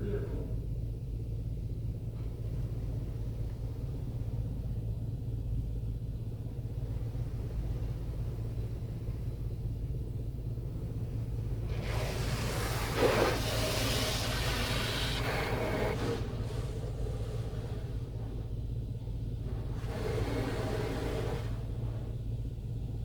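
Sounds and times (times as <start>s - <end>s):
car wash machinery rumble and hum: 0.0s - 23.0s.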